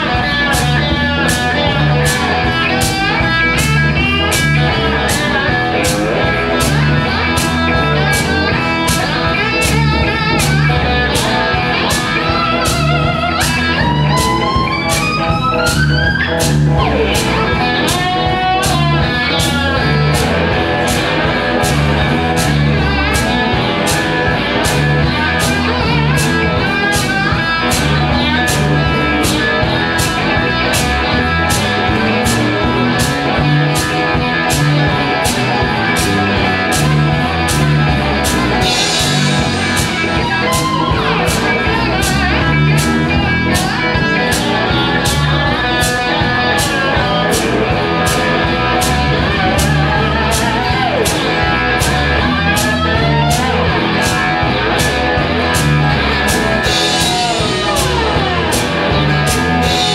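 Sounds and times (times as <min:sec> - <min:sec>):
electric guitars playing blues: 0:00.0 - 0:59.9
steady drum beat: 0:00.0 - 0:59.9.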